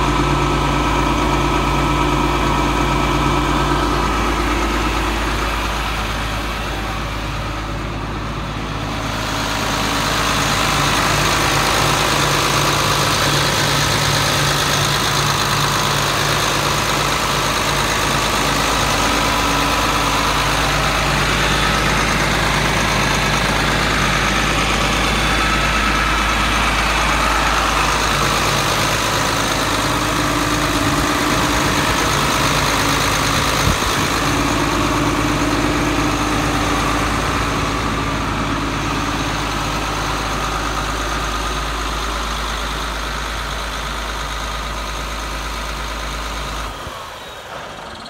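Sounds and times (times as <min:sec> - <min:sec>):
tractor diesel engine idling: 0:00.0 - 0:48.0.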